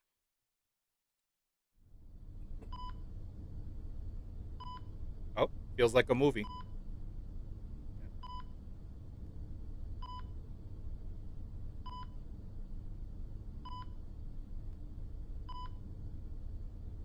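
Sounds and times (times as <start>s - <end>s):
low steady rumble: 2.0s - 17.0s.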